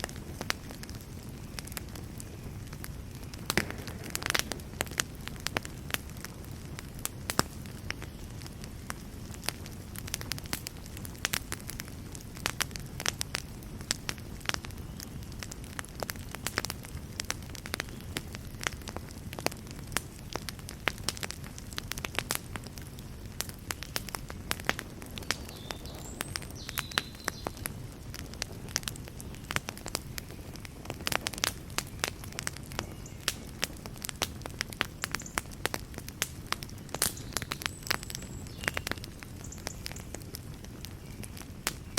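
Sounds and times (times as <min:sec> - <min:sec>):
fireplace fire crackling and popping: 0:00.0 - 0:41.9.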